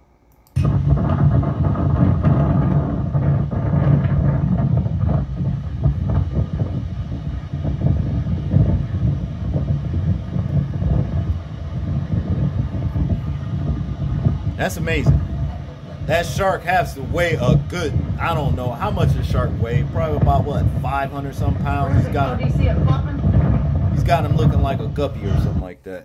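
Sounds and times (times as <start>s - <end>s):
low rumbling with crackles: 0.5s - 26.0s.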